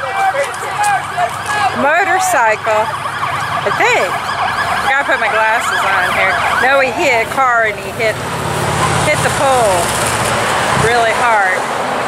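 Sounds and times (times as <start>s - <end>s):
ambulance siren yelping: 0.0s - 9.9s
road traffic: 0.0s - 12.0s.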